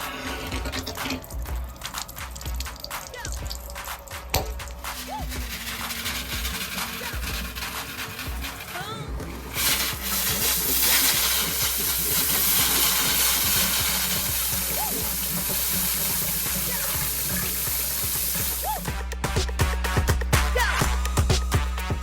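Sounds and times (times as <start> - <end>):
water rushing: 0.0 - 18.9
background music: 0.0 - 22.0.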